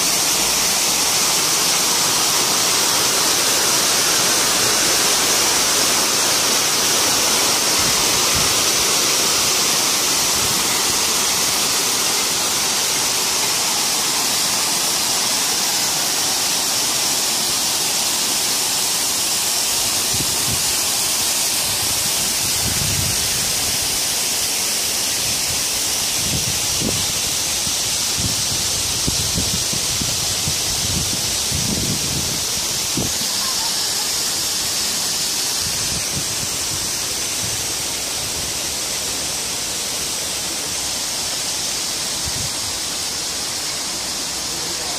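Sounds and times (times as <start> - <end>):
waterfall rushing into pool: 0.0 - 44.9.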